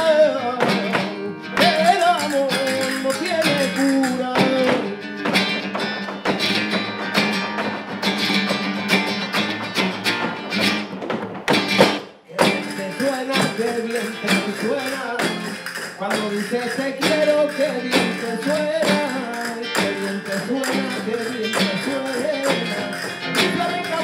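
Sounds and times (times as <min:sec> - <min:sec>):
man singing flamenco: 0:00.0 - 0:09.8, 0:12.2 - 0:24.0
flamenco guitar: 0:00.0 - 0:24.0.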